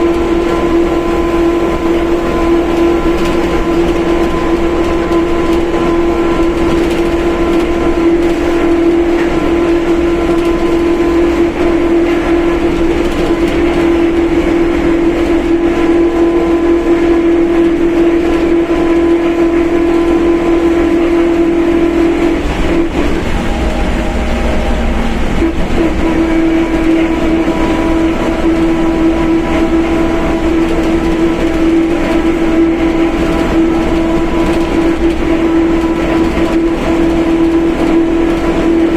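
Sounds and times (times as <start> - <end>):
bus differential whining: 0.0 - 38.9
bus running noise: 0.0 - 38.9.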